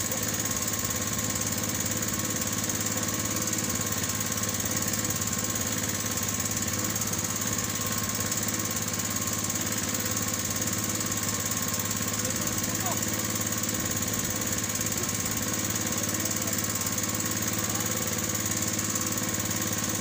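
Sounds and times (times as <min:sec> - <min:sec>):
small boat engine running: 0:00.0 - 0:20.0.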